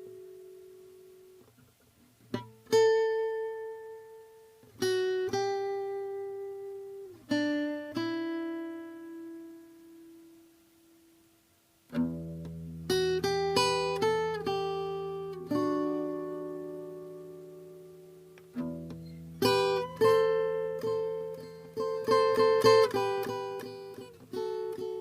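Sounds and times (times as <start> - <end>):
acoustic guitar notes plucked: 0.0 - 11.0, 11.9 - 25.0.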